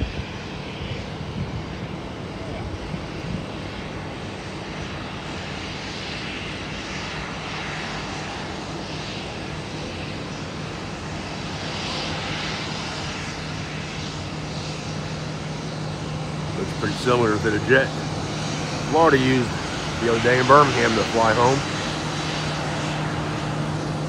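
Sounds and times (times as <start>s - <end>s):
jet engines taxiing: 0.0s - 24.0s.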